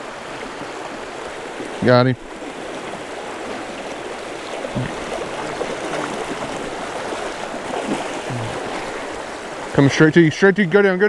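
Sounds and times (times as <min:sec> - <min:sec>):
creek rushing over rocks: 0:00.0 - 0:11.0.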